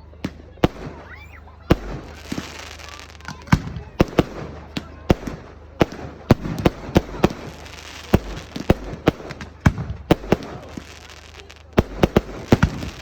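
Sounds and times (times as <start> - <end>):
fireworks bangs: 0.0 - 13.0
fireworks crackling hiss: 0.0 - 13.0.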